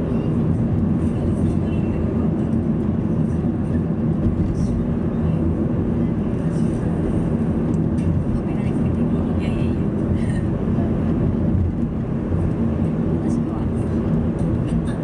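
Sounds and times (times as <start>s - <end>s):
car engine and tyre road noise: 0.0s - 15.0s.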